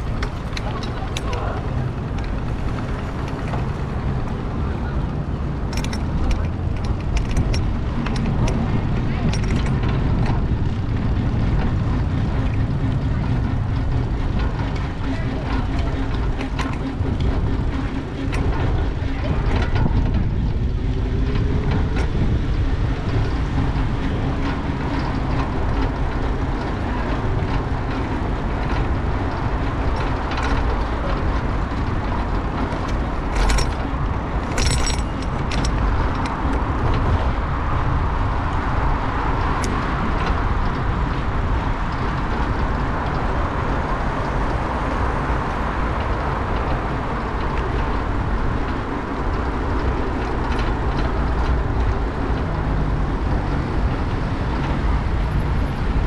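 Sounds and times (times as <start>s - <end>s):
bicycle clicks and rattles: 0.0s - 56.0s
wind and road rumble: 0.0s - 56.0s.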